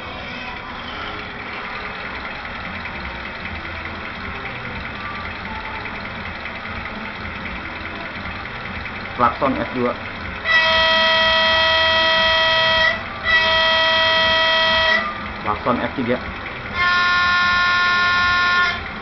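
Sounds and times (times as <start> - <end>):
diesel locomotive engine idling: 0.0 - 19.0.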